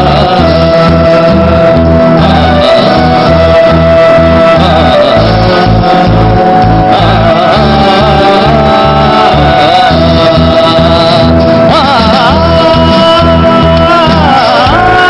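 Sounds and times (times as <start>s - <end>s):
person singing: 0.0s - 15.0s
rock band playing live: 0.0s - 15.0s
steady bass line: 0.0s - 15.0s.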